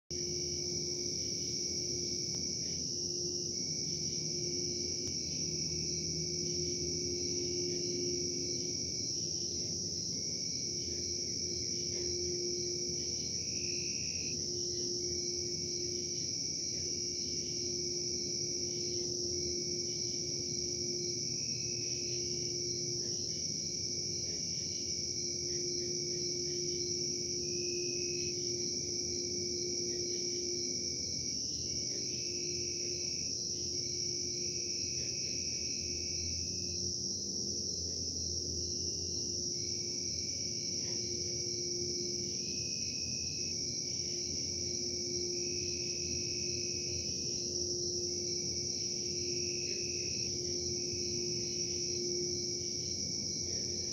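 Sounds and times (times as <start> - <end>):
crickets chirring: 0.1 - 53.9
machinery droning hum: 0.1 - 53.9.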